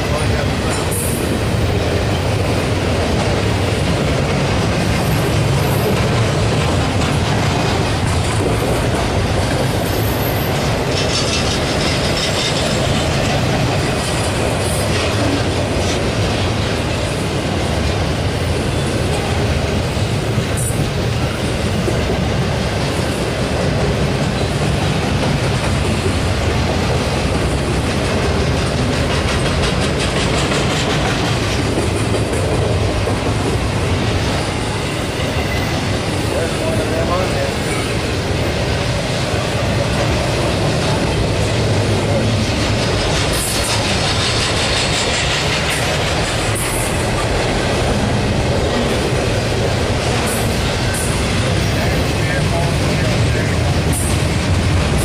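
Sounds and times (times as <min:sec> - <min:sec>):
freight train rumbling past: 0:00.0 - 0:55.0
steel wheels clattering on rails: 0:00.0 - 0:55.0.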